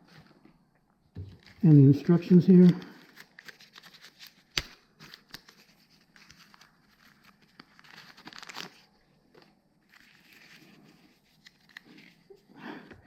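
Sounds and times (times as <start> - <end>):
packaging rustling: 1.2 - 1.7, 2.3 - 12.4.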